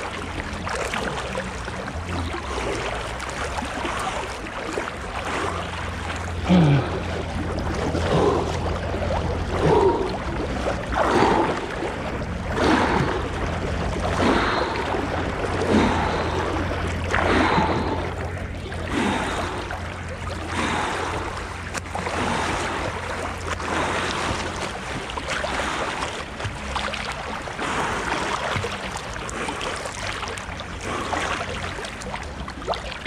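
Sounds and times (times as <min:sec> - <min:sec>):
low hum: 0:00.0 - 0:33.0
swimming strokes splashing: 0:00.0 - 0:33.0.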